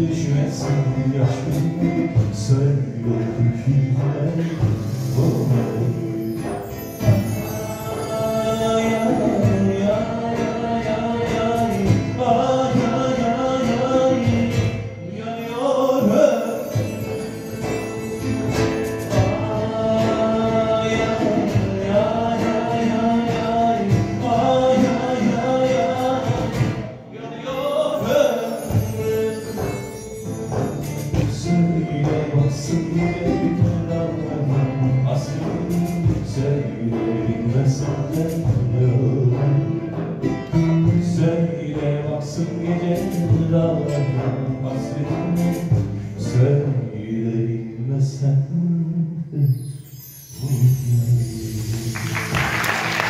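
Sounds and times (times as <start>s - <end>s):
strummed lute and guitar: 0.0s - 49.5s
man singing: 0.0s - 53.0s.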